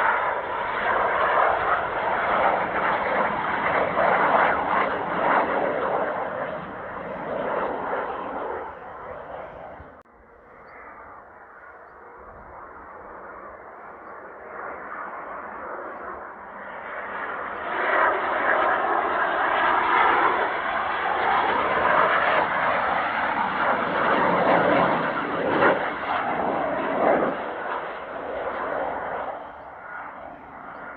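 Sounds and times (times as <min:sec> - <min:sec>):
jet aircraft roar: 0:00.0 - 0:30.9.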